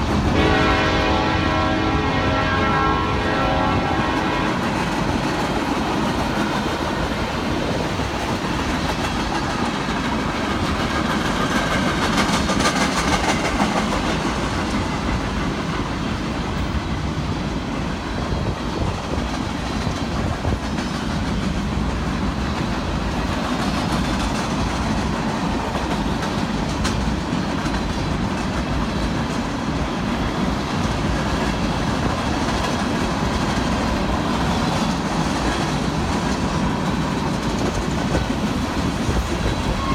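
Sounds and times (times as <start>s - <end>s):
train cars clattering over rail joints: 3.4s - 16.8s, 18.3s - 39.9s.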